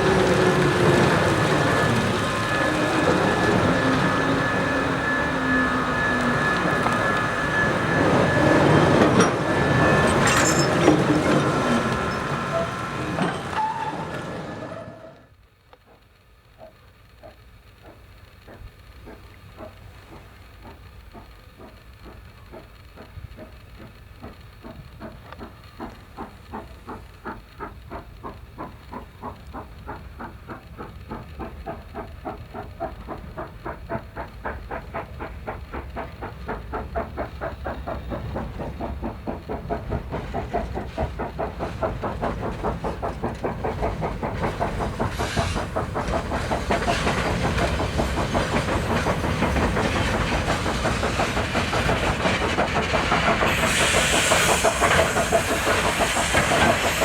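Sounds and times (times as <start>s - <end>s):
steam hissing: 0.0s - 15.3s, 16.6s - 57.0s
steam locomotive chugging: 0.0s - 57.0s.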